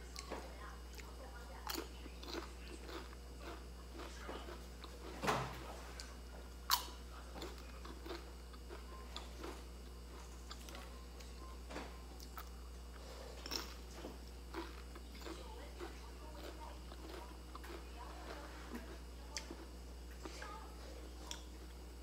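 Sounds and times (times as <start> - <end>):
crunching crispy fried food: 1.0 - 5.2, 6.0 - 10.9, 12.2 - 21.8.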